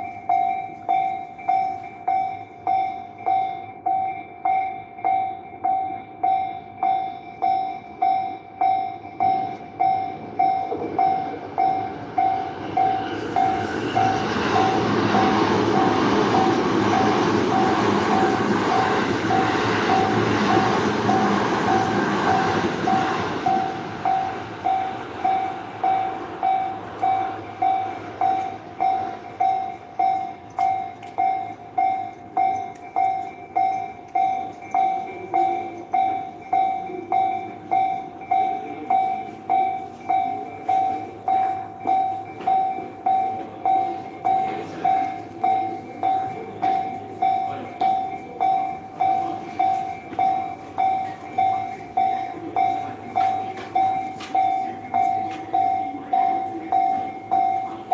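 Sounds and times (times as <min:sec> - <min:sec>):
crossing warning bell ringing: 0:00.0 - 0:57.9
train passing: 0:00.0 - 0:57.9.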